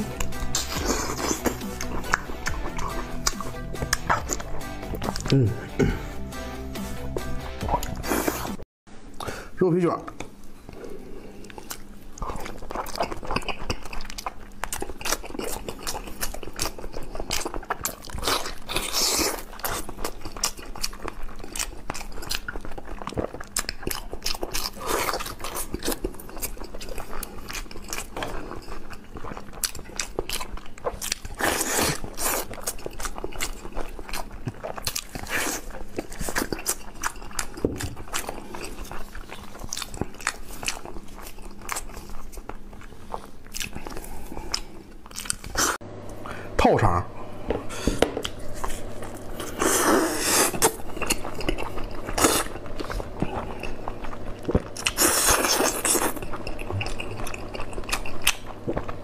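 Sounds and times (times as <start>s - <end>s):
man chewing and slurping: 0.0s - 8.6s, 10.3s - 46.2s, 47.6s - 59.0s.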